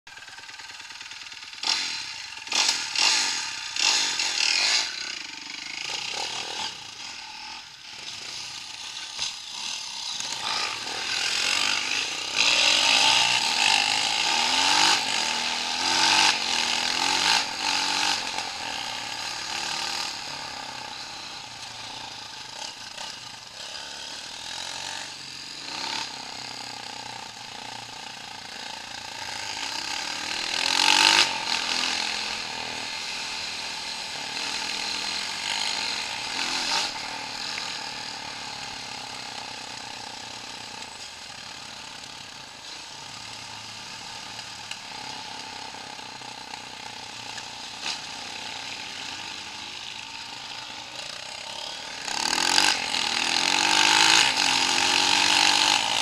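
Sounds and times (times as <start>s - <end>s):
off-road vehicle engine revving: 1.4s - 56.0s.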